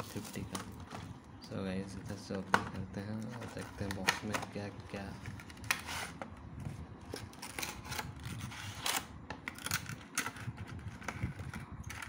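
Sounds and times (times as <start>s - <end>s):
packaging clicks and rustles: 0.0s - 1.1s, 2.0s - 6.4s, 7.0s - 12.0s.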